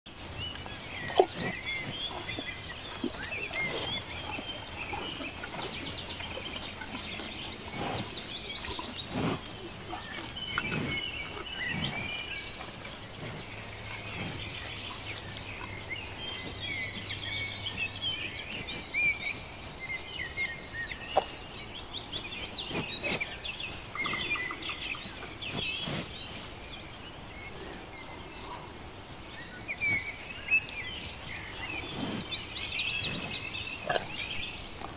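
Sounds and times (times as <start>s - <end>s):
small birds chirping and singing: 0.1s - 34.9s.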